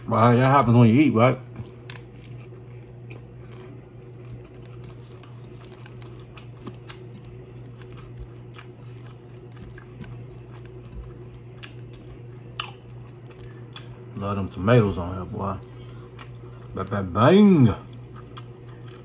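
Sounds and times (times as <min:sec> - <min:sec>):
chewing and crunching taco: 0:00.0 - 0:19.0
steady low hum: 0:00.0 - 0:19.0.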